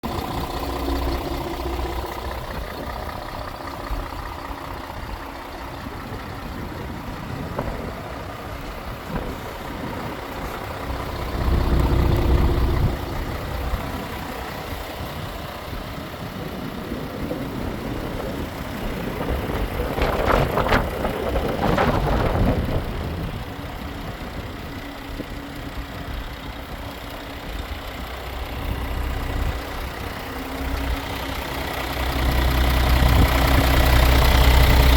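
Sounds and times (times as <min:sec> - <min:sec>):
diesel truck idling: 0:00.0 - 0:34.9.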